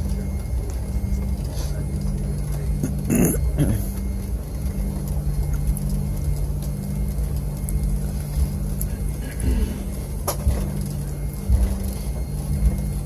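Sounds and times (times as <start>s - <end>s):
jet cabin rumble and hum: 0.0s - 13.0s.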